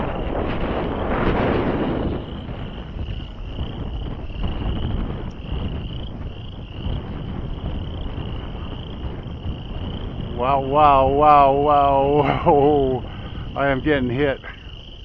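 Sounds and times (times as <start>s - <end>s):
wind buffeting microphone: 0.0s - 15.0s
frogs calling: 2.1s - 15.0s.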